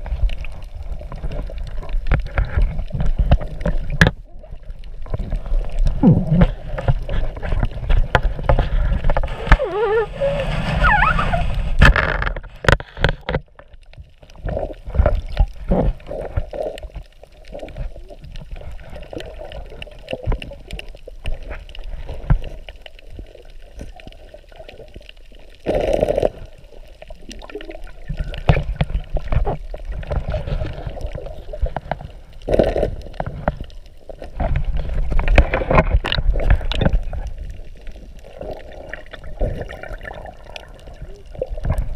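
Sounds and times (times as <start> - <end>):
water sloshing and gurgling: 0.0 - 41.9.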